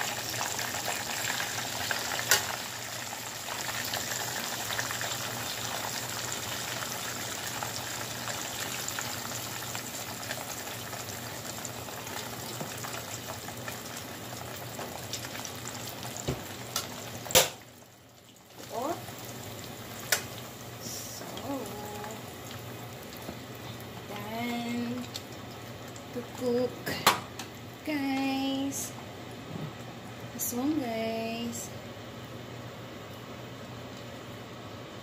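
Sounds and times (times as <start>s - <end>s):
shrimp deep-frying in oil: 0.0s - 28.8s.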